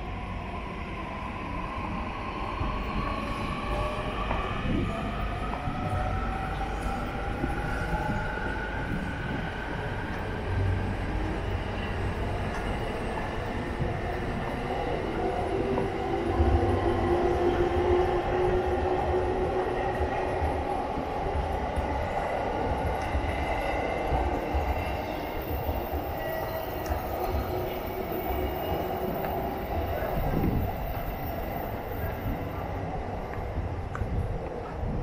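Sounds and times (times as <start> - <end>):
low train rumble: 0.0 - 35.0.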